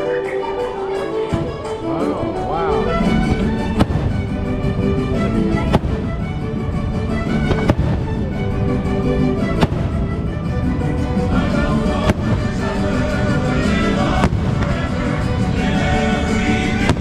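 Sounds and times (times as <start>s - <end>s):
show music: 0.0s - 17.0s
firework bangs: 3.0s - 17.0s.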